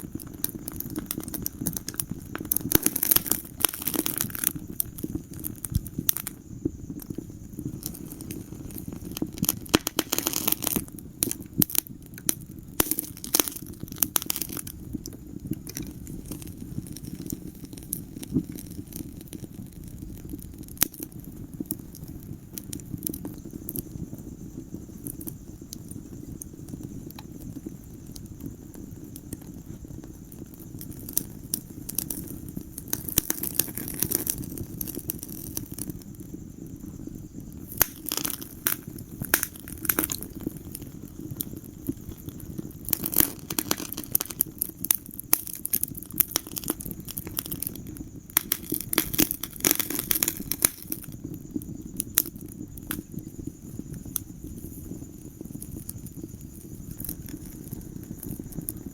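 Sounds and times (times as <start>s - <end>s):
fire crackling and popping: 0.0s - 58.9s
flames rumbling: 0.0s - 58.9s.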